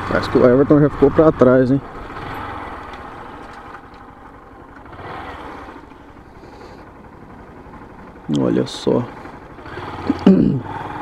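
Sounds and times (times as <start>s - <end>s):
motorcycle on dirt road: 0.0s - 11.0s.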